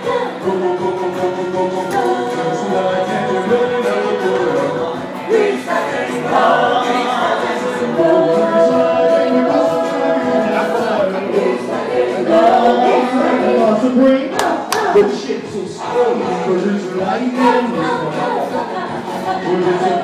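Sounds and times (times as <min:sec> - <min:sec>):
person singing into microphone: 0:00.0 - 0:20.0.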